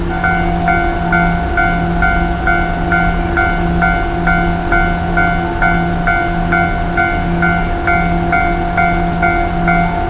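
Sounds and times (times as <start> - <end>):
level crossing warning bell: 0.0 - 10.0
steady low hum: 0.0 - 10.0.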